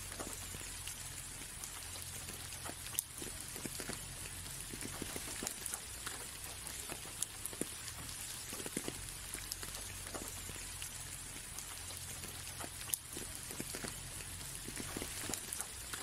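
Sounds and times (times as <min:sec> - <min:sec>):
rain drops ticking on window: 0:00.0 - 0:16.0
soft rain hiss: 0:00.0 - 0:16.0.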